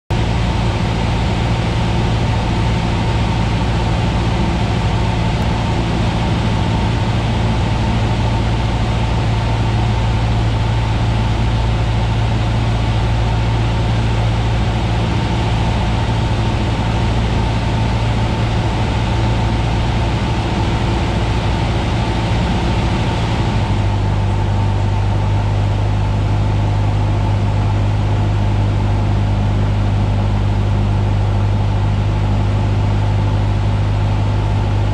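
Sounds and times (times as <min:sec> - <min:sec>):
aircraft engine and propeller droning: 0:00.1 - 0:34.9
wind noise over airframe: 0:00.1 - 0:34.9.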